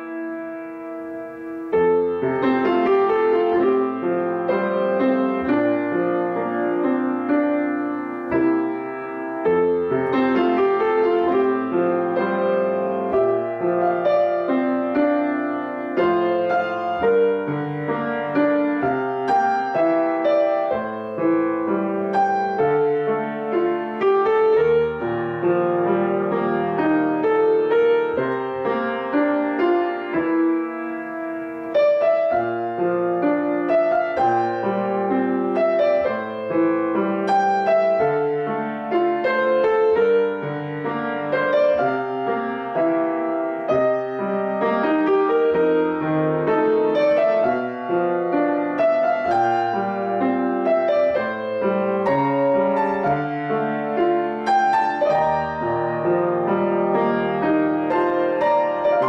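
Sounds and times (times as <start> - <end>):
solo grand piano piece: 0.0 - 59.0.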